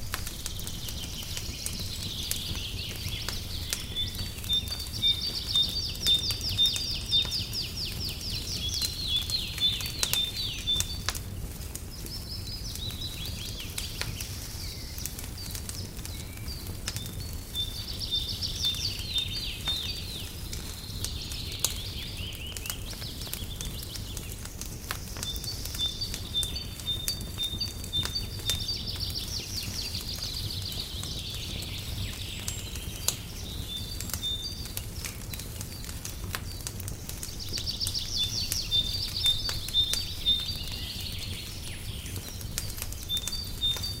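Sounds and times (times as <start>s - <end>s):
songbirds singing: 0.0s - 44.0s
wood fire crackling: 0.0s - 44.0s.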